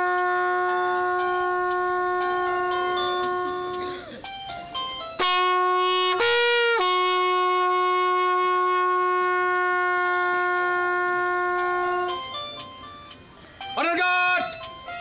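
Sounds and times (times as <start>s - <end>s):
bugle call: 0.0s - 12.6s.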